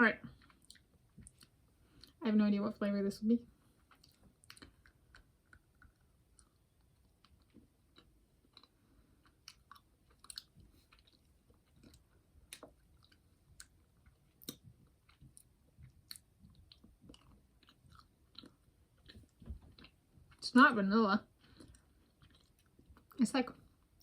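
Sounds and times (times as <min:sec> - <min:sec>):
jelly bean chewing: 0:00.3 - 0:02.2, 0:03.7 - 0:20.4, 0:21.2 - 0:24.0.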